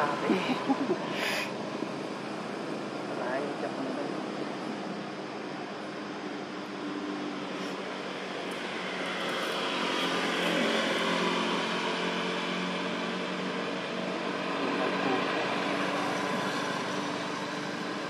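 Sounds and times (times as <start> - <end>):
engine drone: 0.0 - 18.0.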